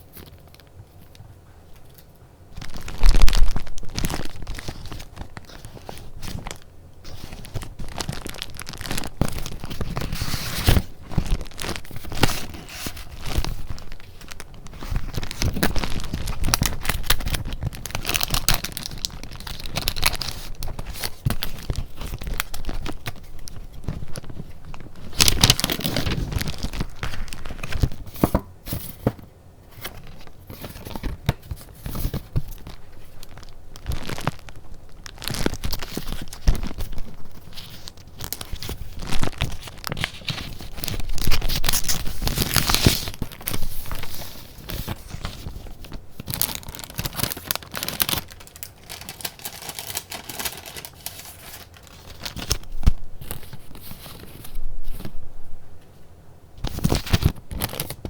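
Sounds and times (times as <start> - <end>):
paper rustling and crinkling: 0.0 - 55.2, 56.6 - 58.0.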